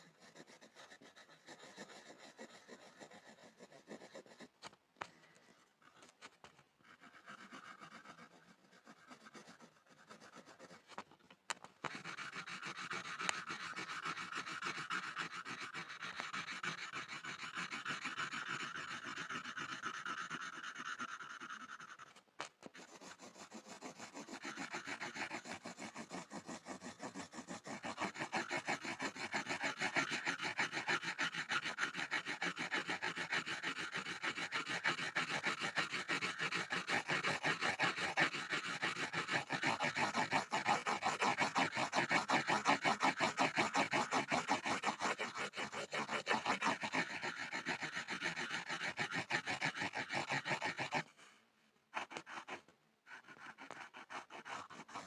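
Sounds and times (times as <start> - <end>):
pencil scribbling on a board: 0.0 - 51.1, 52.0 - 55.0.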